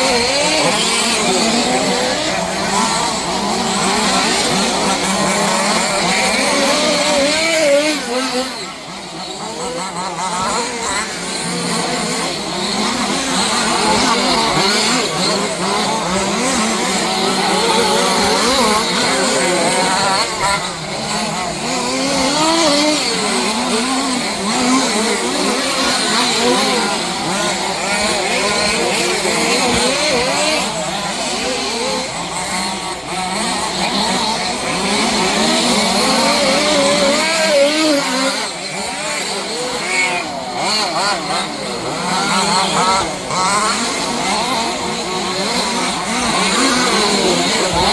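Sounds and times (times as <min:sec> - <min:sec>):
rc car engines racing: 0:00.0 - 0:47.9.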